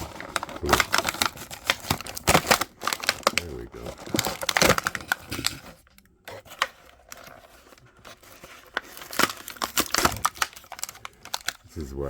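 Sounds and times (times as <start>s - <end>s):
packaging crinkling: 0.0s - 11.7s.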